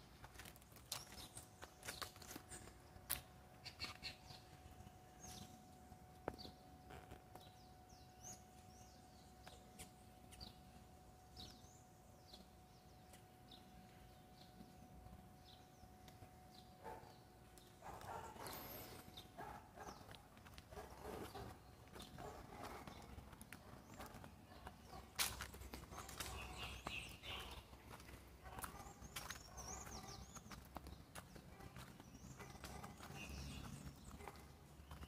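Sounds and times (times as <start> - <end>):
faint steady hum: 0.0 - 31.6.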